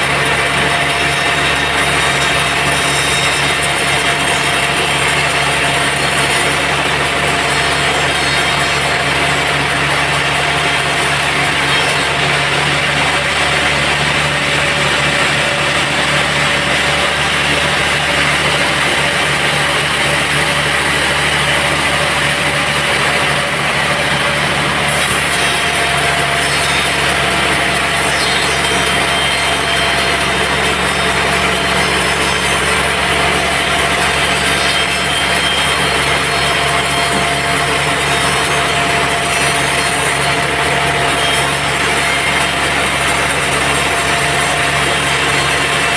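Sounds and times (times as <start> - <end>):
band saw cutting log: 0.0 - 45.9.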